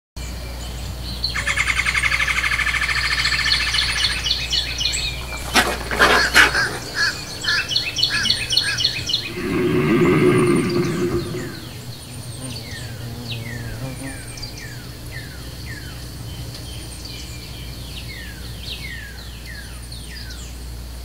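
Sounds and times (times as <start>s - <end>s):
songbirds singing: 0.2s - 21.0s.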